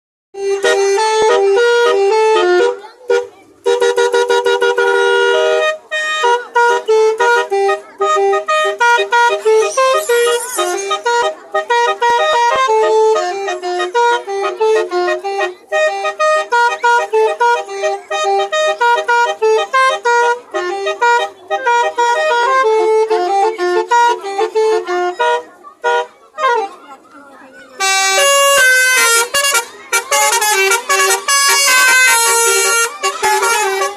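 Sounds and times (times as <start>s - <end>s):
musical vehicle horn melodies: 0.4s - 26.7s, 27.8s - 33.9s.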